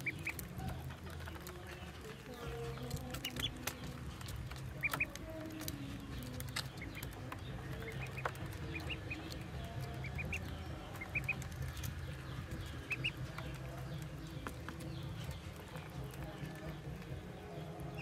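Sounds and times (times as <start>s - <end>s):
bills pecking at feed: 0.0s - 18.0s
ducklings peeping: 0.0s - 18.0s.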